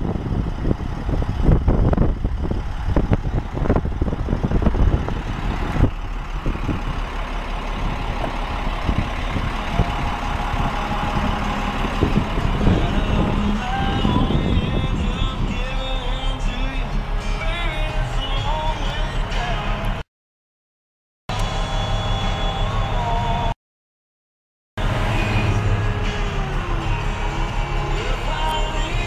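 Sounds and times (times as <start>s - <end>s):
tow truck running: 0.0s - 20.0s, 21.3s - 23.6s, 24.8s - 29.0s.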